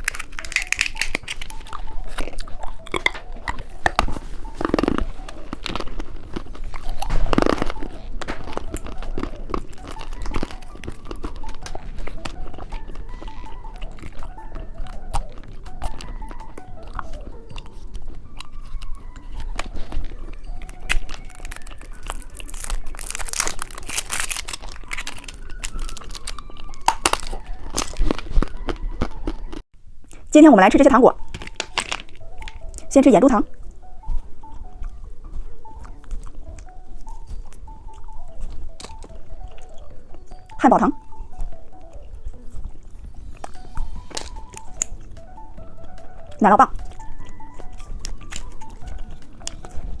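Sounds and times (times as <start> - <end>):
plastic wrapper crinkling: 0.0 - 29.6, 31.2 - 50.0
hard candy crunching: 0.0 - 30.3, 31.1 - 50.0.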